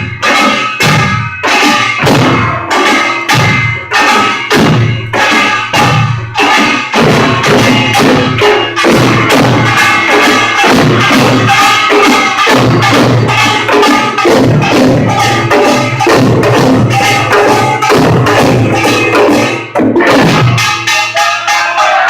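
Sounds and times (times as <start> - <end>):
drums thudding: 0.0 - 21.2
metal gongs clanging: 0.0 - 22.0.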